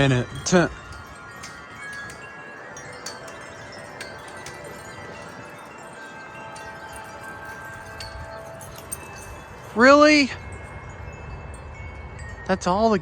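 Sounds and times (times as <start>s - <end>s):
wind chimes ringing softly: 0.0s - 13.0s.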